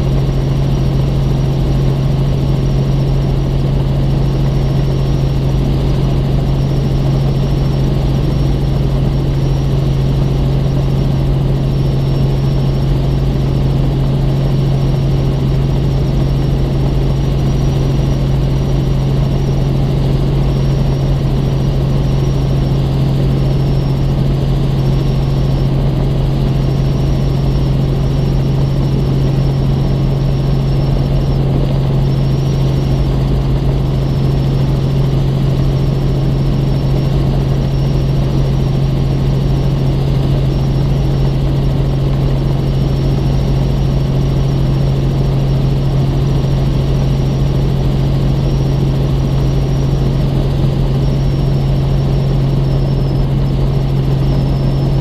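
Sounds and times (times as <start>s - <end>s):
helicopter engine and rotors droning: 0.0s - 55.0s.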